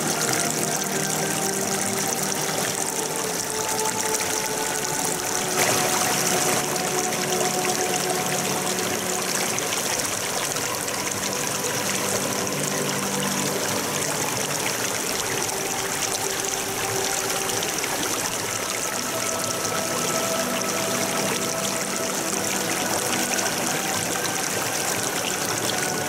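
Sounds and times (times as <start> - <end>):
faint sustained tones: 0.0 - 26.0
stream water trickling over stones: 0.0 - 26.0.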